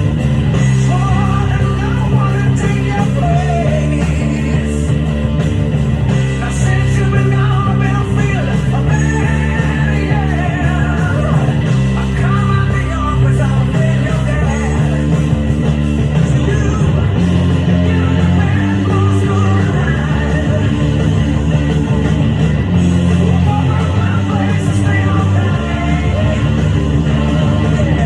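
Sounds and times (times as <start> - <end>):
electric bass guitar line: 0.0 - 28.0
hard rock song with singing: 0.0 - 28.0.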